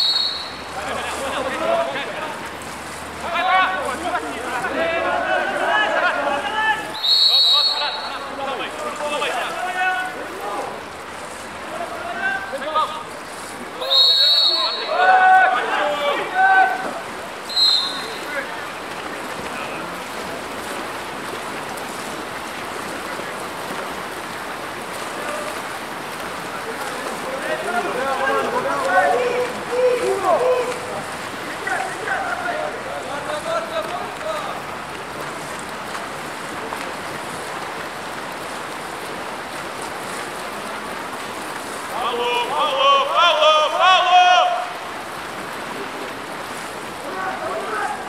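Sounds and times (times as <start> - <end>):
swimmers splashing water: 0.0 - 48.0.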